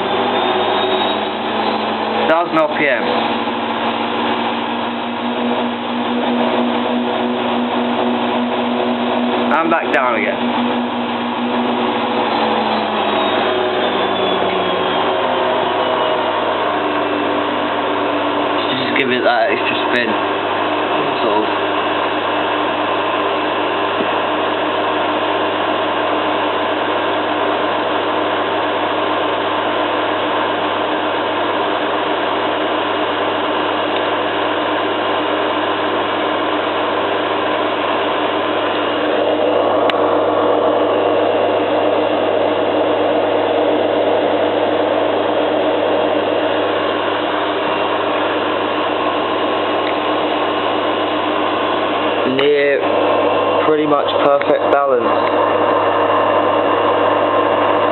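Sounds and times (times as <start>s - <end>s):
washing machine spinning with a whine: 0.0s - 57.9s.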